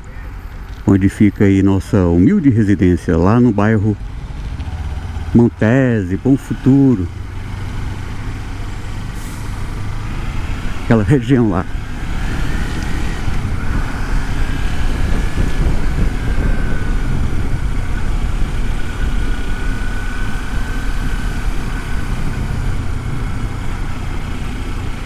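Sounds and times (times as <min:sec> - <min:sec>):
road noise: 0:00.0 - 0:25.0
wind noise: 0:00.0 - 0:25.0
motorcycle engine running: 0:02.4 - 0:25.0.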